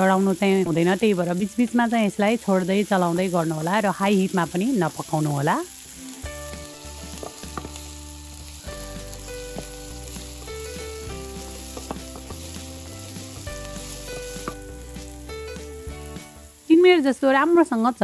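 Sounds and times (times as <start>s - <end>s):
onion and garlic frying in oil: 0.0s - 18.0s.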